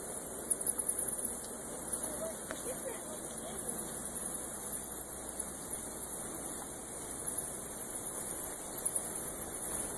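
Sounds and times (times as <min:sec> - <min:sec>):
bats squeaking: 0:00.0 - 0:09.9.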